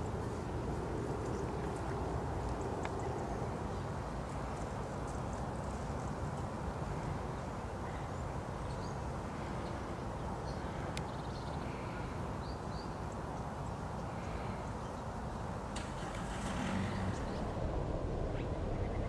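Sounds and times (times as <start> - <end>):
low outdoor rumble: 0.0 - 12.2, 13.4 - 19.0.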